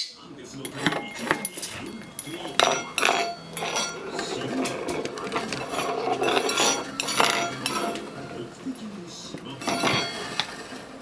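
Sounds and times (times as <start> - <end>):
tableware clinking: 0.5 - 8.5, 9.4 - 11.0.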